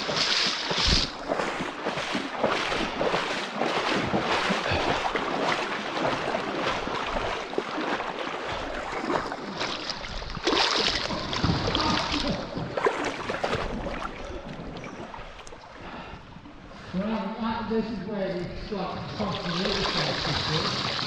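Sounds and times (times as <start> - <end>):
water splashing: 0.0 - 16.1, 18.7 - 21.0
flowing water rushing: 0.0 - 16.8, 18.7 - 21.0.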